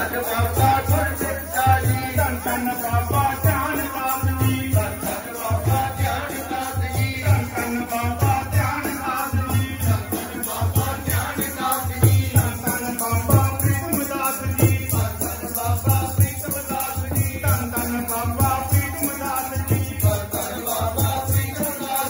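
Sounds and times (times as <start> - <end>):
group singing: 0.0 - 22.0
steady drum beat: 0.0 - 22.0.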